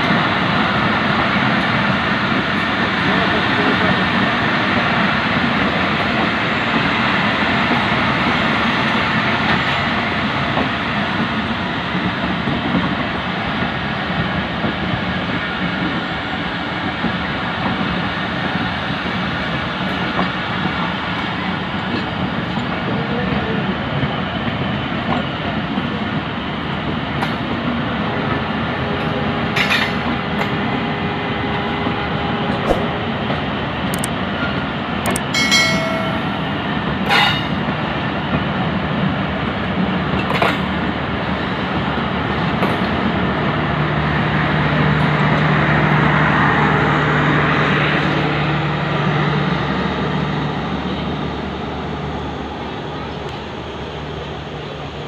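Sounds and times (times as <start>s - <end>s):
trains passing rushing: 0.0s - 55.0s.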